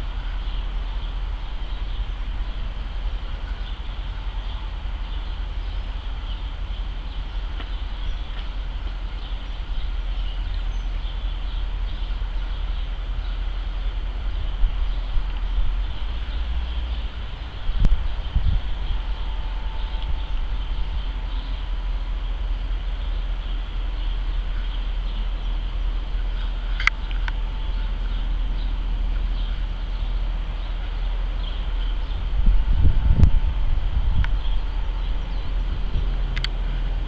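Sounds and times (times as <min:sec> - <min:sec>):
jet airliner rumble overhead: 0:00.0 - 0:37.0.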